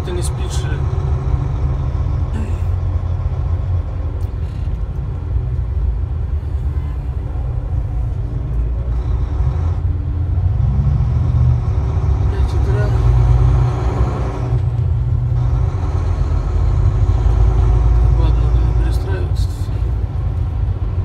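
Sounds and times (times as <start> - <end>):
road noise: 0.0 - 21.0
truck diesel engine rumble: 0.0 - 21.0.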